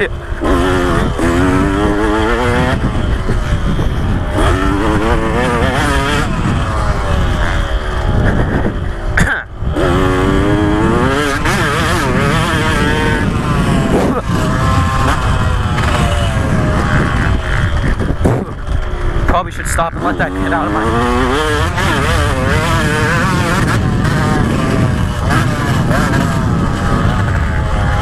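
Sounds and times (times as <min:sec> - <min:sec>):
two-stroke engine revving hard: 0:00.0 - 0:28.0
wind noise on microphone: 0:00.0 - 0:28.0.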